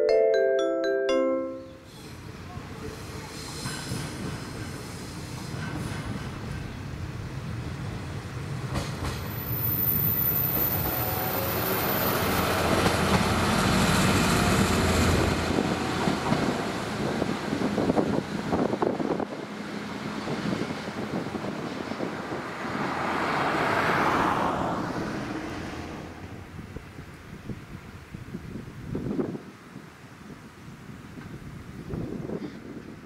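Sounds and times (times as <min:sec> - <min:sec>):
diesel railcar rumbling: 0:01.8 - 0:33.0.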